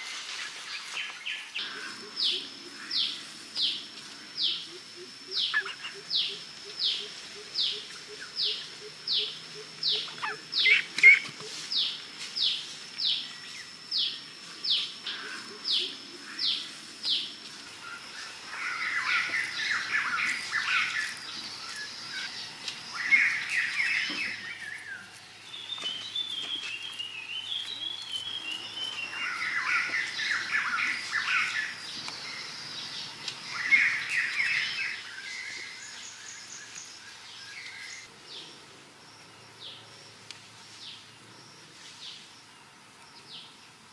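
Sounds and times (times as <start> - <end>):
birds chattering calls: 0.0 - 43.9.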